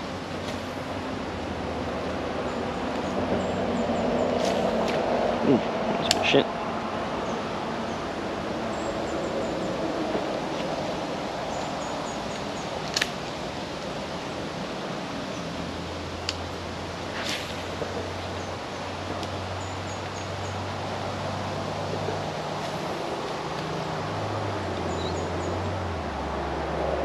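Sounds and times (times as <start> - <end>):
creek water: 0.0 - 27.0.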